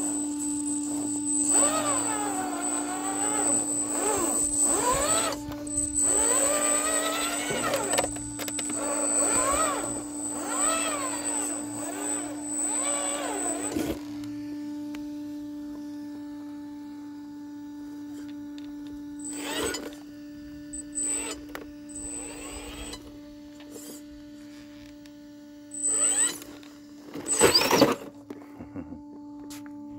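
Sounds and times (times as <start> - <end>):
electric motor and gears whining: 0.0 - 29.9
steady hum: 0.0 - 29.9.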